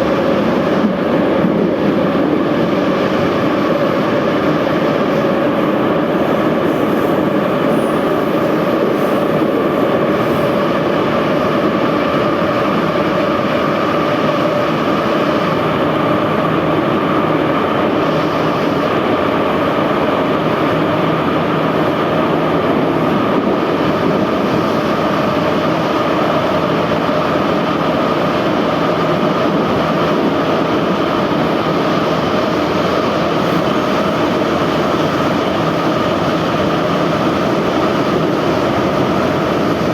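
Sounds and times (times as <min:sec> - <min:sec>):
train rail rumble: 0:00.0 - 0:39.9.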